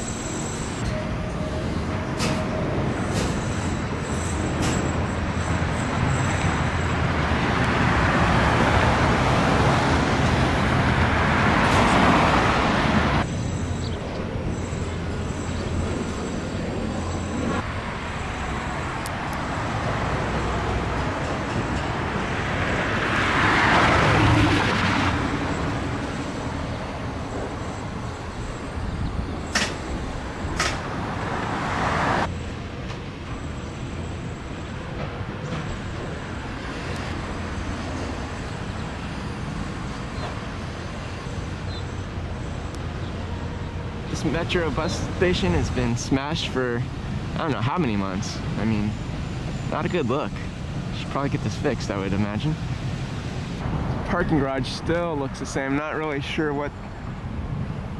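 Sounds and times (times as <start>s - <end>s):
vehicles passing: 0.0s - 57.9s.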